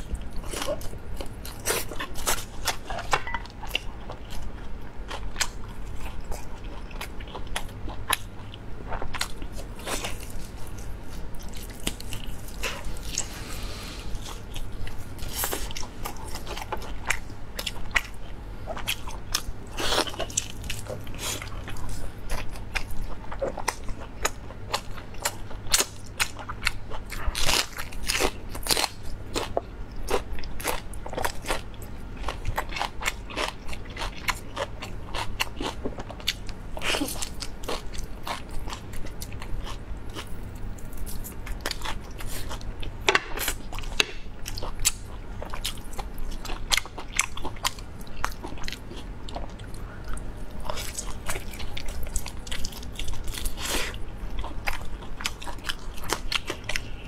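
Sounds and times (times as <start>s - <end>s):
chewing meat: 0.0s - 57.0s.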